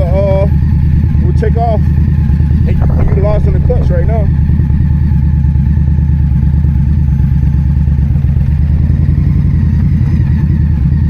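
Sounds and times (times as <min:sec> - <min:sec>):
motorcycle engine pulling away: 0:00.0 - 0:11.0.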